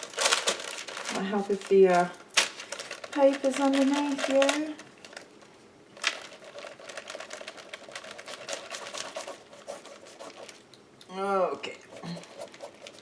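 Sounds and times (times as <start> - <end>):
paper tapping and rustling: 0.0 - 5.3, 6.0 - 10.6, 12.0 - 13.0.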